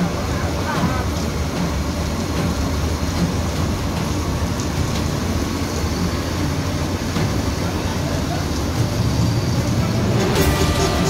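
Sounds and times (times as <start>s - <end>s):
broad rushing noise: 0.0s - 11.0s
diesel engines rumbling: 0.0s - 11.0s.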